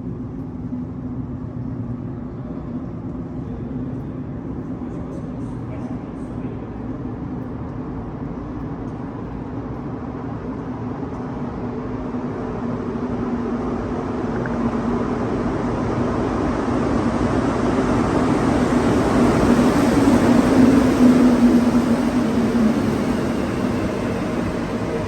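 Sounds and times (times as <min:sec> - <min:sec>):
metro train rumbling: 0:00.0 - 0:25.0.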